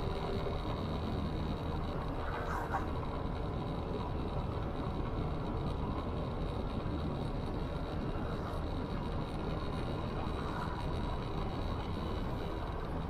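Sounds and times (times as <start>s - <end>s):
faint high whine: 0.0s - 13.0s
motorcycle engine and road rumble: 0.0s - 13.0s.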